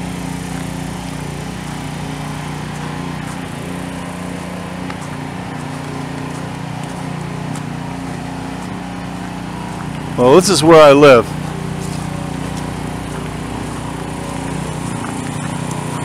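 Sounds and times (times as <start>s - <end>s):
snowblower engine running: 0.0s - 16.0s.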